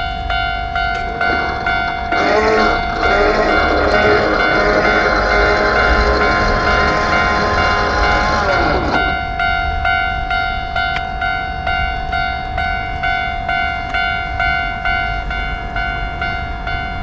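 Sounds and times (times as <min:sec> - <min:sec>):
electronic warning bell: 0:00.0 - 0:17.0
train rumbling: 0:00.0 - 0:17.0.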